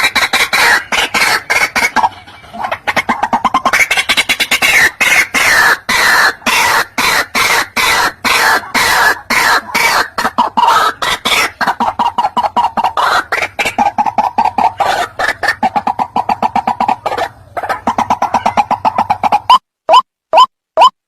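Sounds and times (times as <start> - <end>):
waterhen clucking calls: 0.0 - 21.0.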